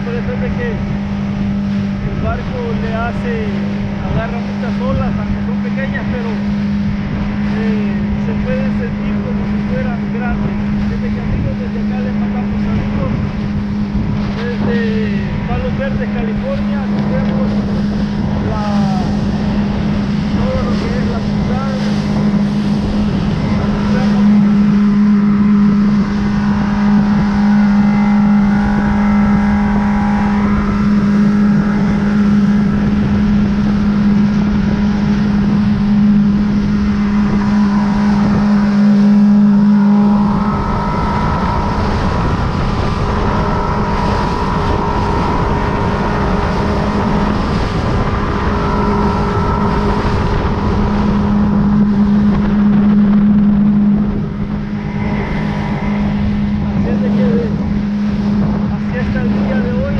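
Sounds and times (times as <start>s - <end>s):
motorboat engine running: 0.0s - 59.9s
water and wind rushing: 0.0s - 59.9s.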